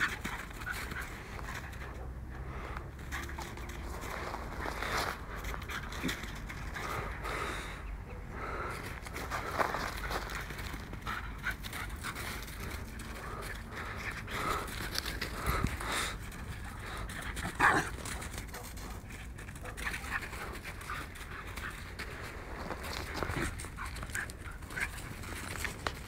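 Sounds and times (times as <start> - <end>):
dogs panting: 0.0 - 26.0.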